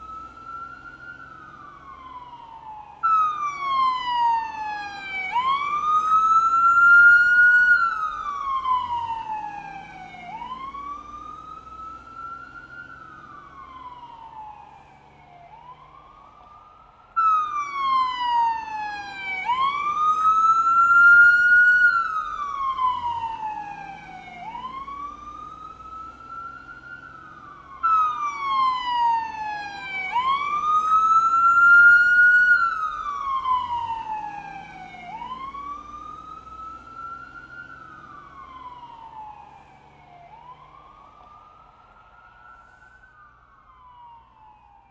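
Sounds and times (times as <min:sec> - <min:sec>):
police siren wailing: 0:00.0 - 0:44.9.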